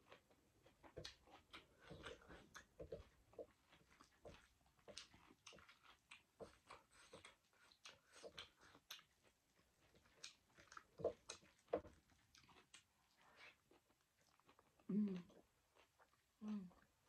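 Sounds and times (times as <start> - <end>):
chewing and lip smacking: 0.0 - 17.0.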